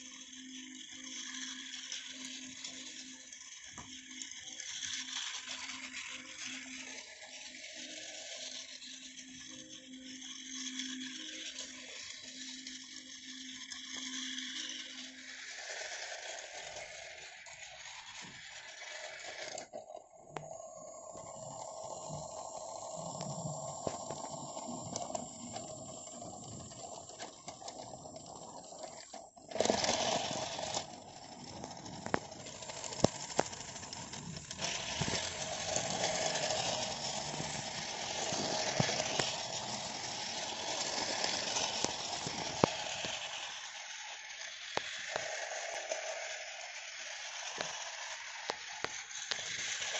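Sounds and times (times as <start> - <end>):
toy train clatter: 0.0 - 49.9
toy train motor whine: 0.0 - 49.9.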